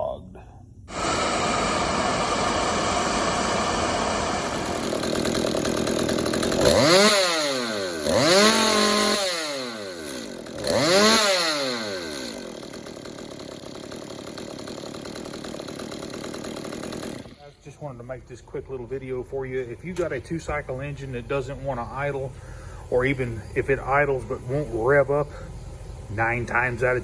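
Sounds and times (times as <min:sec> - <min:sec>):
chainsaw engine revving and idling: 0:00.9 - 0:27.0.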